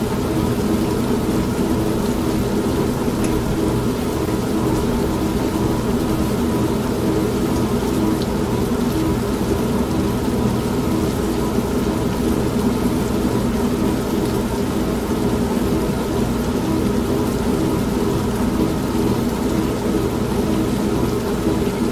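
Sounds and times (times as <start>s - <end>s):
washing machine motor hum: 0.0s - 21.9s.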